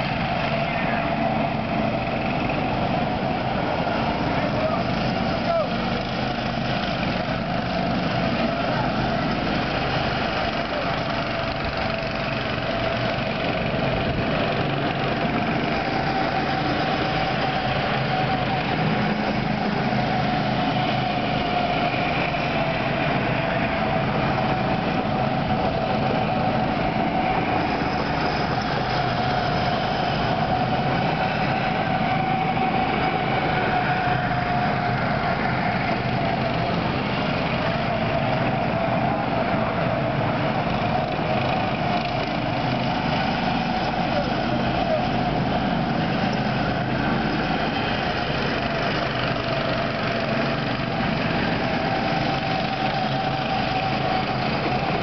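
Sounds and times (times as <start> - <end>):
go-kart engines running: 0.0 - 55.0.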